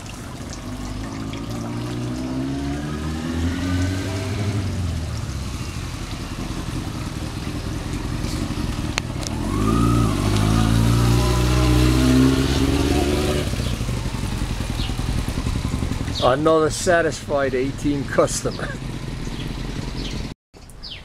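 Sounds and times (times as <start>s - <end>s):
motorcycle engine running: 0.6s - 20.4s.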